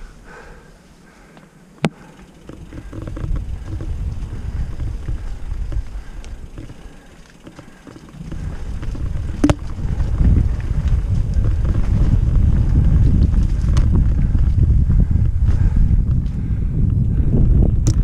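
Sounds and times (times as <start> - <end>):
tyres rumbling over dirt trail: 0.0 - 18.0
wind buffeting microphone: 2.3 - 18.0.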